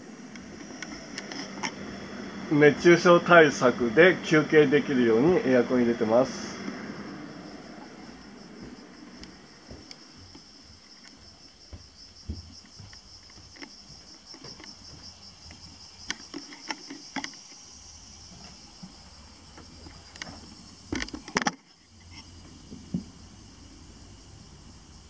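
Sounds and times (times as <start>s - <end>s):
high insect chirring: 0.0s - 25.0s.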